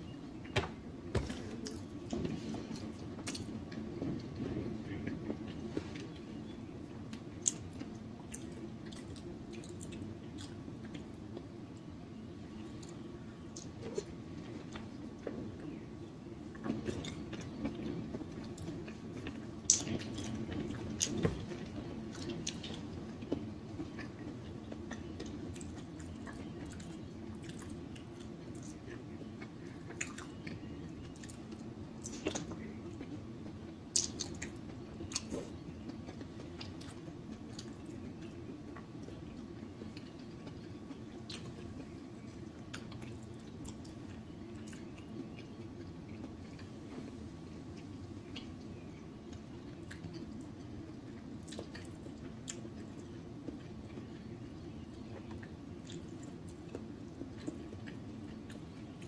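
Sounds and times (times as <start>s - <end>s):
person chewing food: 1.2s - 11.5s, 16.5s - 54.3s, 54.9s - 59.0s.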